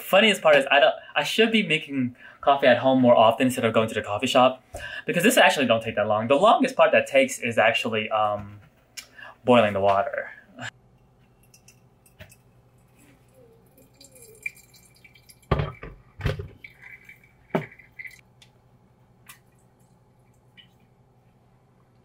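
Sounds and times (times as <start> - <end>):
faint steady hum: 0.8 - 22.0.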